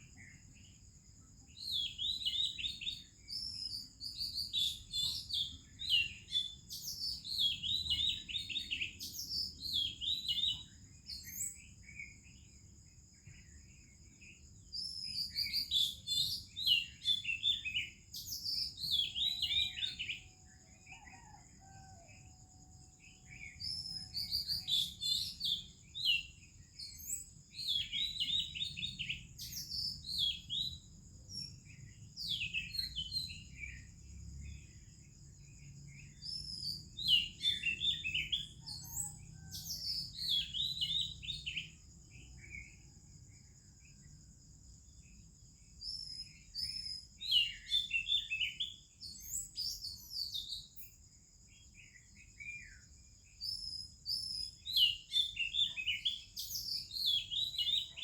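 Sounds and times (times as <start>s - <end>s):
birds singing whistles and chirps: 0.0s - 58.0s.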